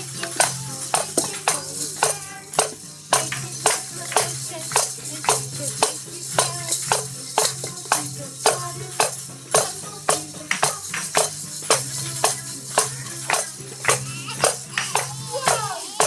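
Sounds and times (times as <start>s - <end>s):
music with shaken percussion: 0.0s - 16.0s.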